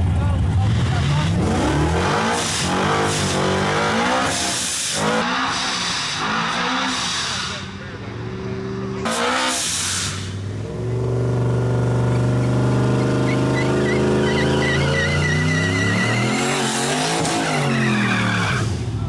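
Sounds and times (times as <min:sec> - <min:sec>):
racing engine at high revs: 0:00.0 - 0:19.0
tire squealing: 0:00.0 - 0:19.0.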